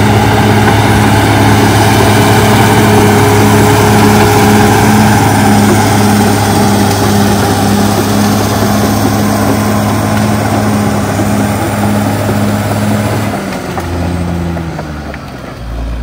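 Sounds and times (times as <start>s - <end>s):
diesel engine of dozer: 0.0s - 16.0s
dozer pushing brush and trees: 0.0s - 16.0s.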